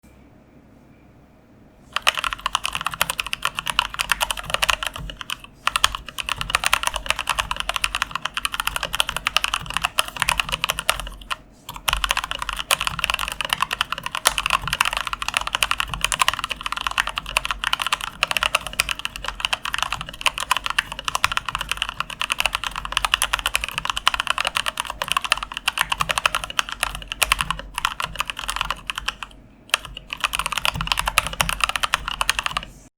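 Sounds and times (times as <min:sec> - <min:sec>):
fast typing on mechanical keyboard: 0:01.9 - 0:32.8.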